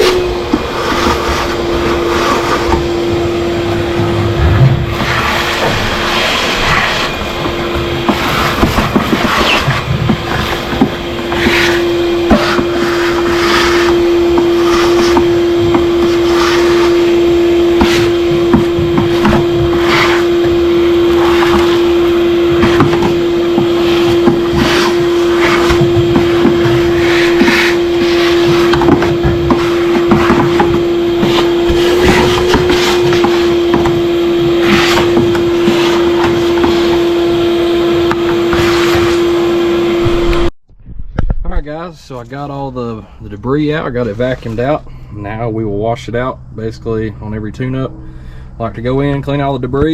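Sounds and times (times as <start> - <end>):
shop vac whining: 0.0 - 40.6, 41.6 - 49.9.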